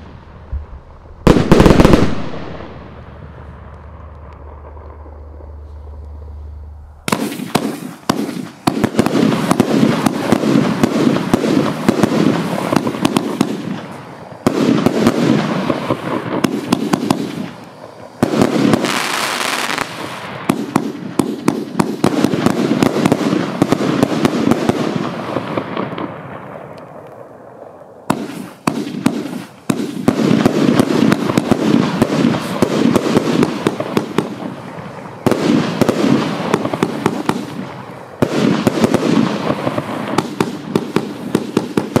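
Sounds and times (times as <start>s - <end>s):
fireworks barrage: 0.0s - 42.0s.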